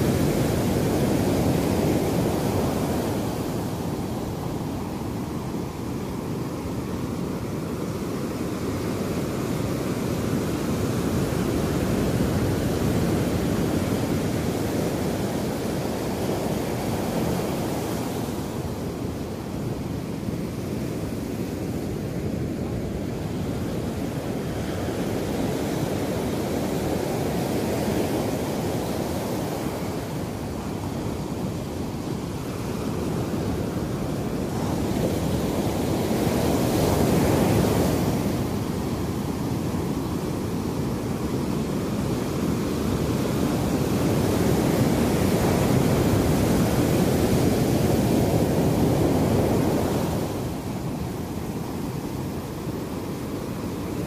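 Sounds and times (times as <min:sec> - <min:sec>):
waves washing on beach: 0:00.0 - 0:54.0.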